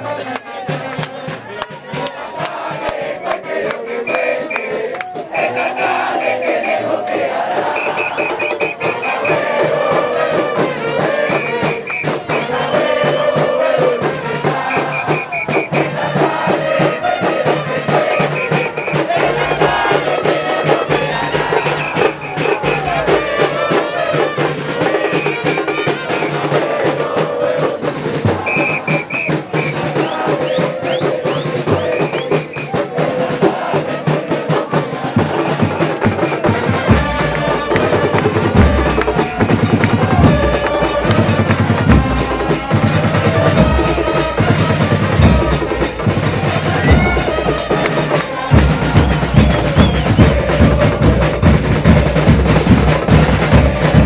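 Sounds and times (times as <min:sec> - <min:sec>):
crowd chanting: 0:00.0 - 0:54.0
drums beating: 0:00.0 - 0:54.0
brass playing: 0:03.8 - 0:32.8, 0:36.2 - 0:51.5.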